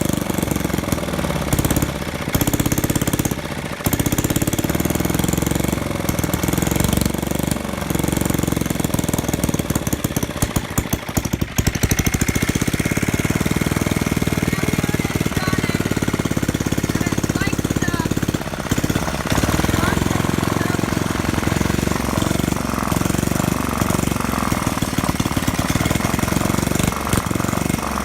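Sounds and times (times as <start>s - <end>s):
gasoline engine running: 0.0s - 28.0s.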